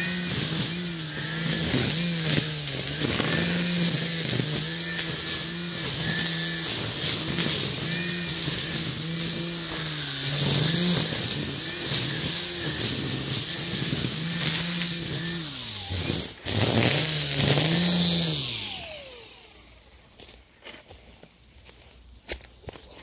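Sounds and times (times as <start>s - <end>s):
string trimmer motor whining: 0.0s - 20.5s.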